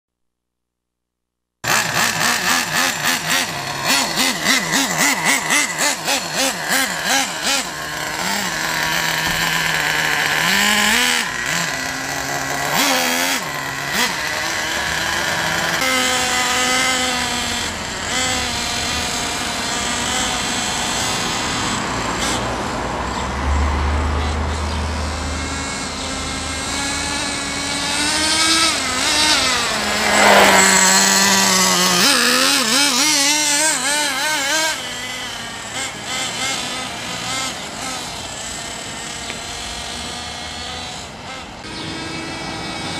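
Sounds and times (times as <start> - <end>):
model car engine idling and revving: 1.6 - 42.9.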